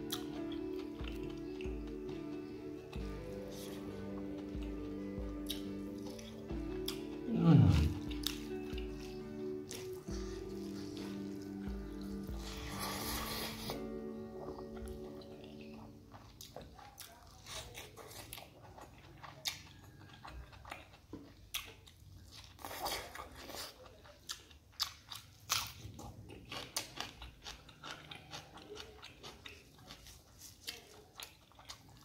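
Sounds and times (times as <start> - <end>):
person chewing with wet smacks: 0.0 - 32.0.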